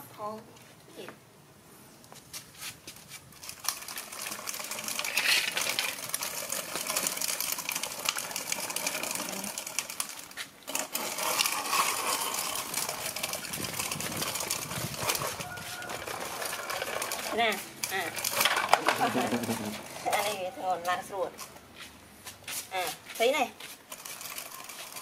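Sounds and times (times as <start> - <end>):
toy truck rattling over concrete: 3.0 - 21.6, 22.8 - 25.0.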